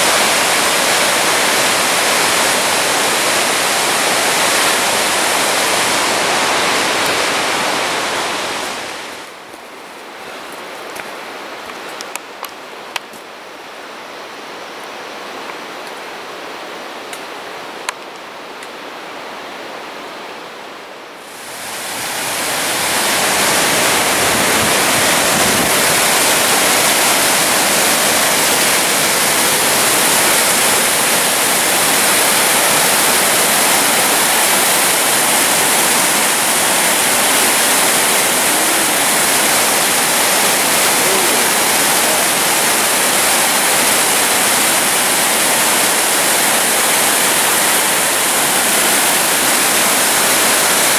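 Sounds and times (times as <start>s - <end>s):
creek rushing over rocks: 0.0s - 50.9s.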